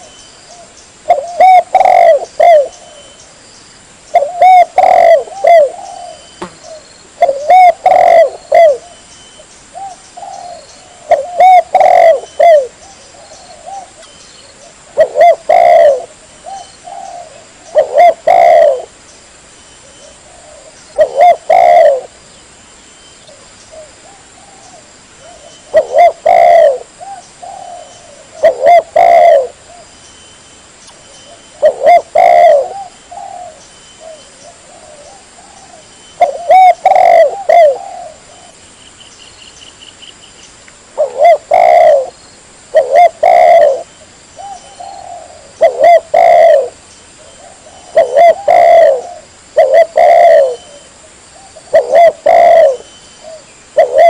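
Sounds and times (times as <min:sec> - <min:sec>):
dove cooing: 0:00.0 - 0:03.2, 0:04.1 - 0:09.0, 0:09.7 - 0:19.0, 0:19.8 - 0:22.2, 0:23.3 - 0:29.9, 0:31.3 - 0:38.6, 0:40.9 - 0:54.0.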